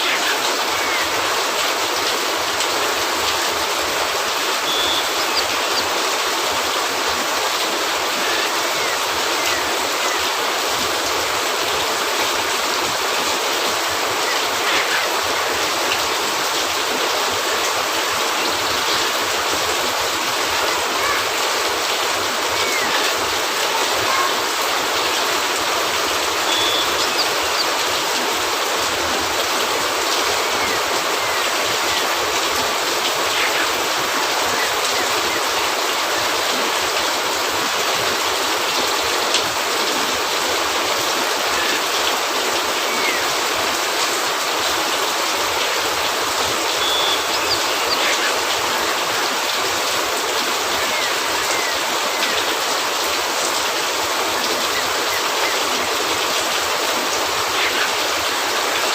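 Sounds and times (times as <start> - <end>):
rain on a roof: 0.0 - 58.9.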